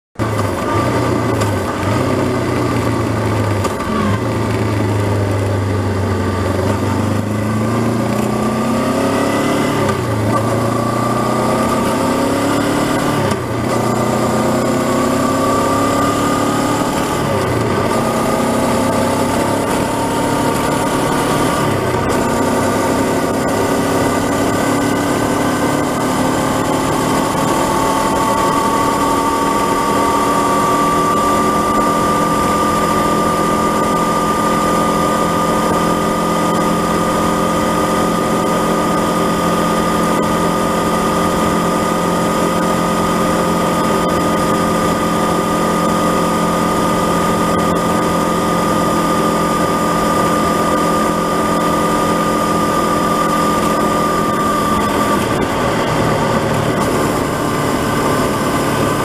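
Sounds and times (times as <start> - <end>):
motorcycle engine accelerating: 0.2 - 59.0
wind and road noise: 0.2 - 59.0.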